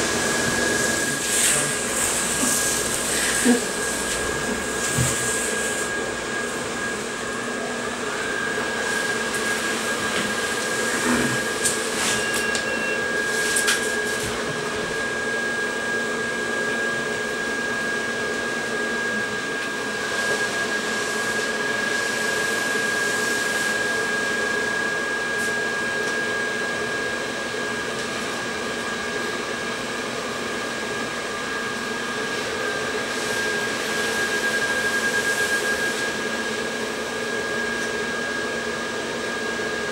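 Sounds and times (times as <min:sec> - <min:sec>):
blower fan humming with whine: 0:00.0 - 0:39.9.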